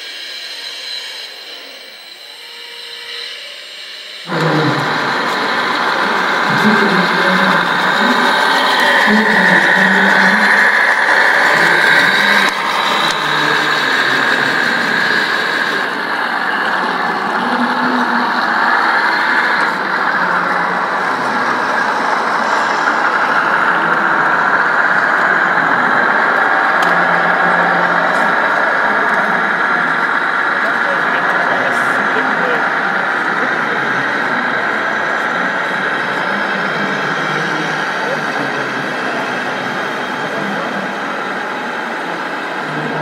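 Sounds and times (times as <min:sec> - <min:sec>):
mechanical noise: 0:00.0 - 0:43.0.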